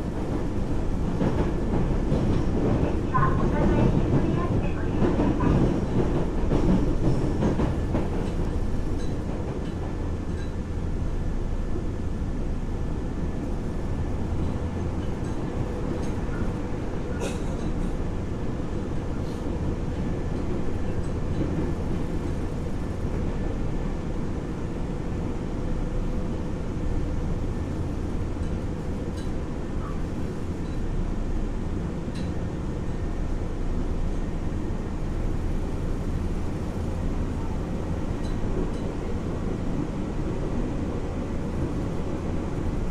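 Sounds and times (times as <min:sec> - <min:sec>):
train running rumble: 0:00.0 - 0:42.9.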